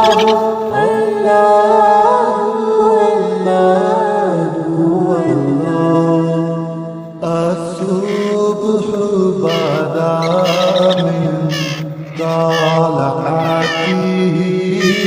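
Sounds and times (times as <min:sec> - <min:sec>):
low held vocal drone: 0:00.0 - 0:15.0
men singing a cappella: 0:00.0 - 0:15.0.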